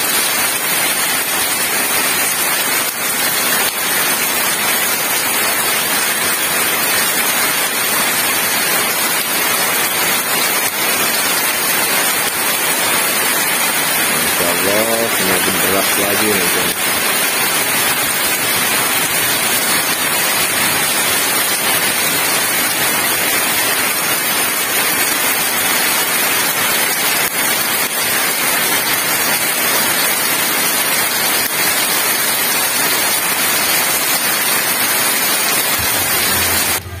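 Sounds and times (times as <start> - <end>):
heavy rain on pavement: 0.0 - 37.0.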